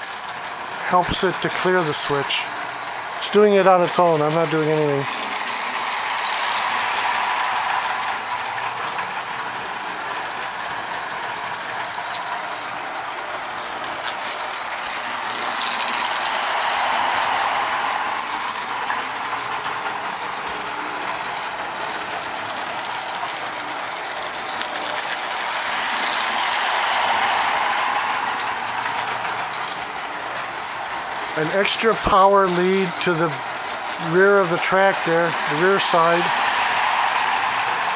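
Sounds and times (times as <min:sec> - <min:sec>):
toy train motor whirring: 0:00.0 - 0:37.9
wheels rattling over rails: 0:00.0 - 0:37.9.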